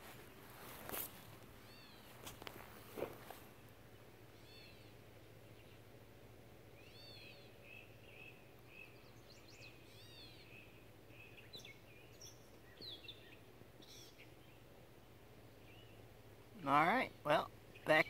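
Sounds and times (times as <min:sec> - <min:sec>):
faint birdsong: 0:00.0 - 0:18.0
steady low hum: 0:00.0 - 0:18.0.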